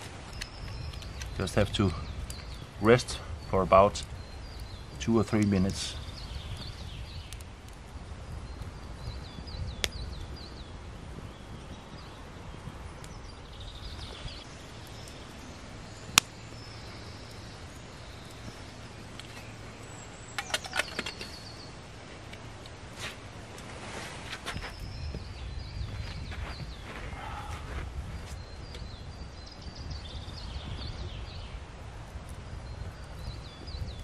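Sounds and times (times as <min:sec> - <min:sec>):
campfire popping: 0:00.0 - 0:34.0
low outdoor background: 0:00.0 - 0:34.0
small birds chirping: 0:00.0 - 0:34.0.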